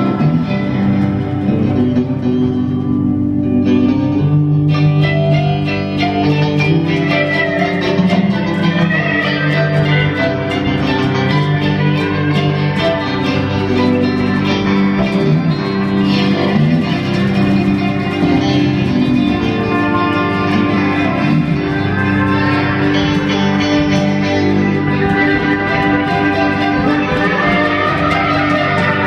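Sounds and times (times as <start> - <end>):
bass guitar: 0.0 - 29.0
electric guitar: 0.0 - 29.0
pedal steel guitar: 0.0 - 29.0.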